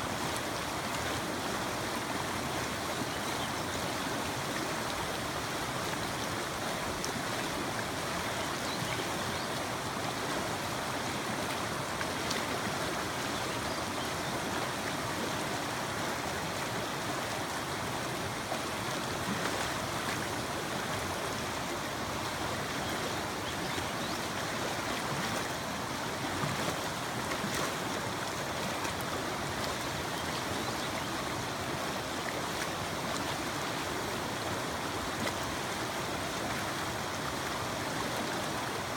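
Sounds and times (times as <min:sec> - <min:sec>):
creek rushing over rocks: 0:00.0 - 0:38.9.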